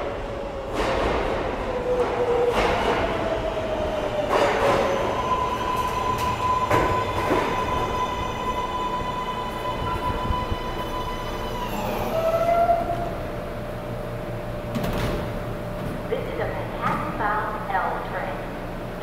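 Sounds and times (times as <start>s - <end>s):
train whine: 0.0s - 17.7s
subway train rumbling: 0.0s - 19.0s.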